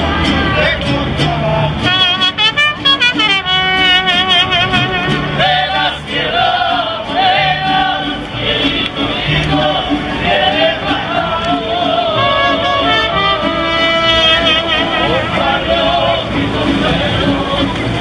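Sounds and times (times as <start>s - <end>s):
guitar accompaniment: 0.0s - 18.0s
street band singing: 0.0s - 18.0s.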